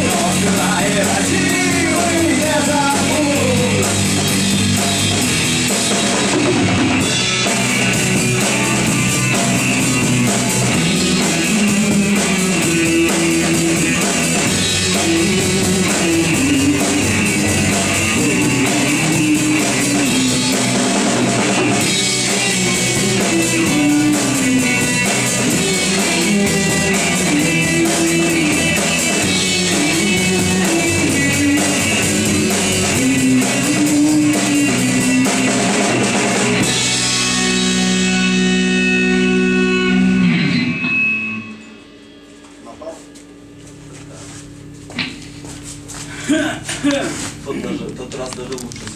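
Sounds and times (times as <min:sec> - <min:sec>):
drum kit beat: 0:00.0 - 0:39.7, 0:42.6 - 0:48.3
guitar melody: 0:00.0 - 0:48.9.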